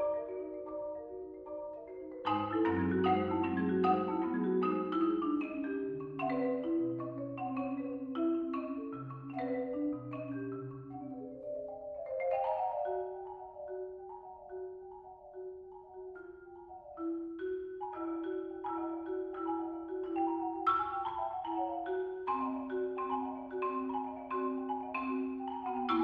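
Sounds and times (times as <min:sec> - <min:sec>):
marimbas played with mallets: 0:00.0 - 0:26.0.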